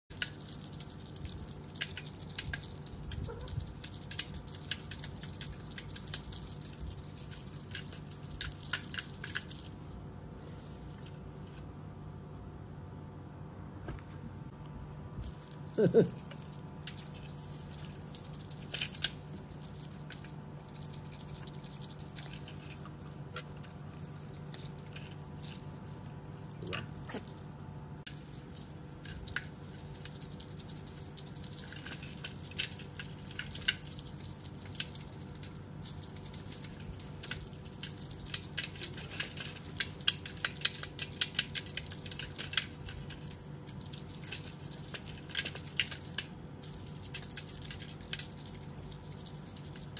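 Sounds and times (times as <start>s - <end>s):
cat toy jingling and clicking: 0.1s - 11.6s, 15.2s - 49.9s
low steady hum: 0.1s - 49.9s.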